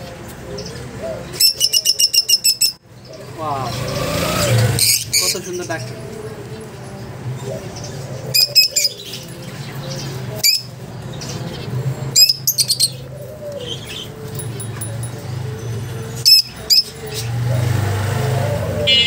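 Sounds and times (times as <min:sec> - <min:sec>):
lovebirds chirping shrilly: 0:00.6 - 0:06.0, 0:07.6 - 0:19.0.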